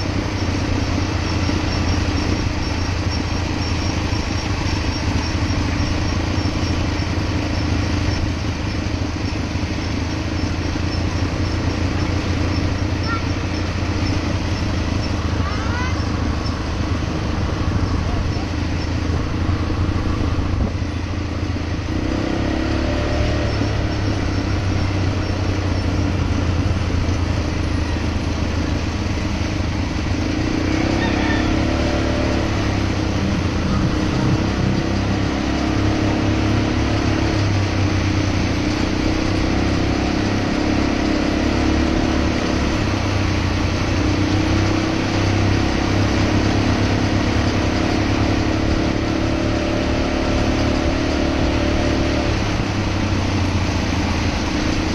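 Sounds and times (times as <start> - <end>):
quad bike engine running: 0.0 - 54.9
road and air noise: 0.0 - 54.9.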